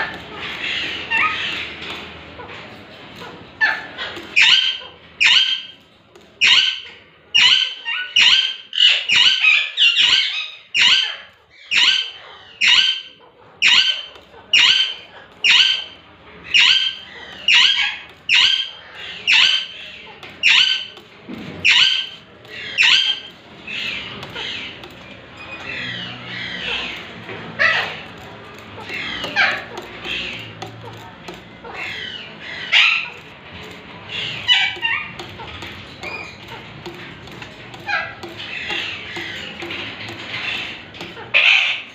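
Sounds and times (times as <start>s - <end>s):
parakeets screeching: 0.0s - 41.9s.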